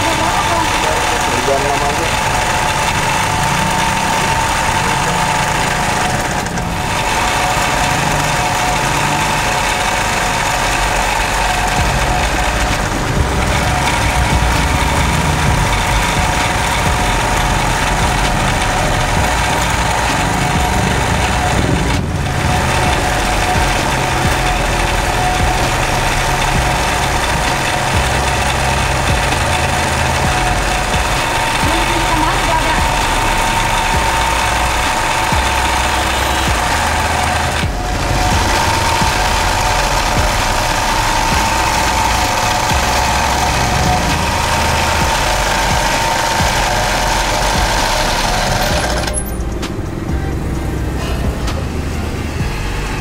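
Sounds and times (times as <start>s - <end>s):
sewing machine running: 0.0s - 50.2s.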